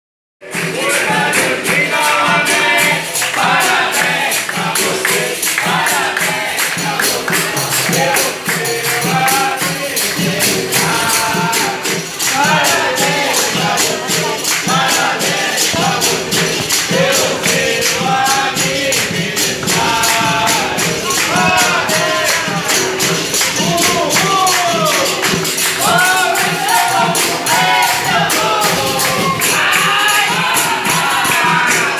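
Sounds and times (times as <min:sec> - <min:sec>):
group singing: 0:00.4 - 0:31.9
pandeiro: 0:00.4 - 0:31.9
people clapping: 0:00.4 - 0:31.9
hand drum: 0:00.5 - 0:31.9.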